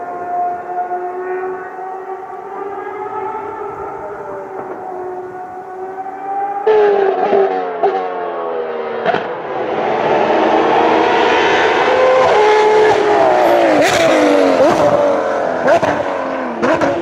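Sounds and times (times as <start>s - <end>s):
loud car passing: 0.0s - 17.0s
racing car engines whining: 0.0s - 17.0s.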